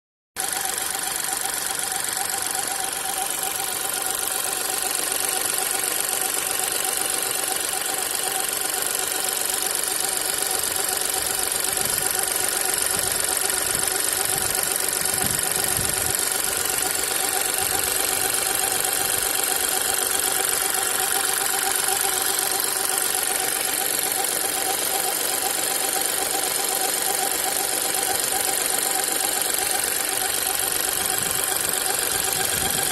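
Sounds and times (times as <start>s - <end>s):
car engine idling: 0.4s - 32.9s
squeak: 0.4s - 32.9s.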